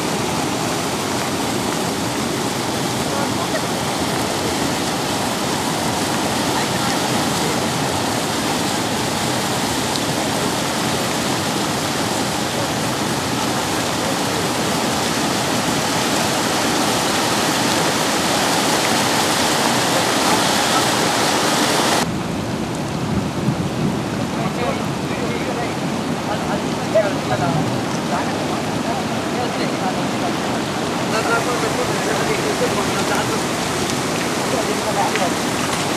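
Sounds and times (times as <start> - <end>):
water rushing over a weir: 0.0 - 22.9, 24.1 - 35.9.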